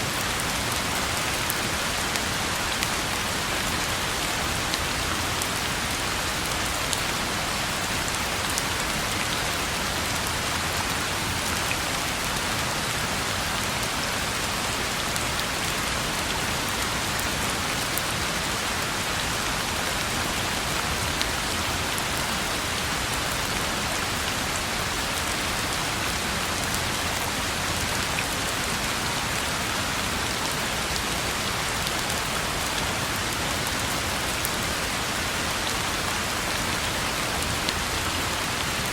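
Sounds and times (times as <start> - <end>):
rain falling on road: 0.0 - 38.9.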